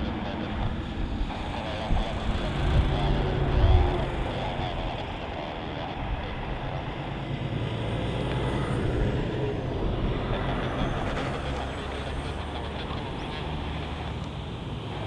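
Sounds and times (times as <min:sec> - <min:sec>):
jet engines rumbling with whine: 0:00.0 - 0:15.0.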